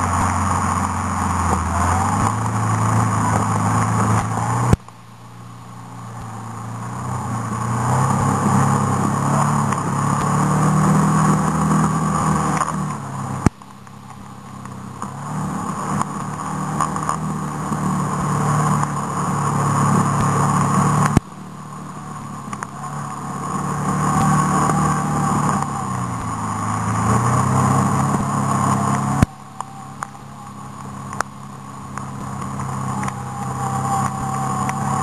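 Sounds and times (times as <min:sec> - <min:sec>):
vehicle engine revving: 0:00.0 - 0:35.0.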